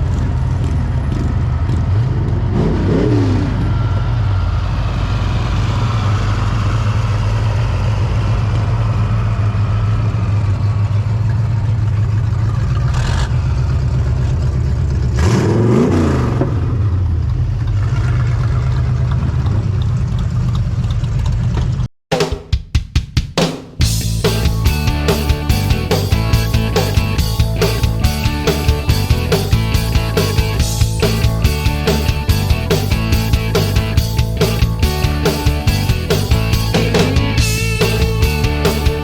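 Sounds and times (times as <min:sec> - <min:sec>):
vehicle engine running and revving: 0:00.0 - 0:21.9, 0:23.8 - 0:39.0.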